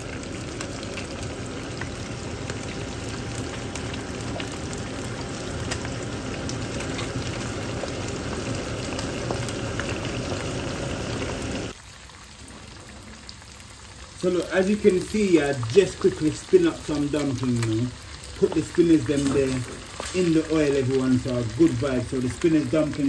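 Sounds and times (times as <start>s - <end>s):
fish sizzling in oil: 0.0s - 23.0s
oil crackling and popping: 0.0s - 23.0s.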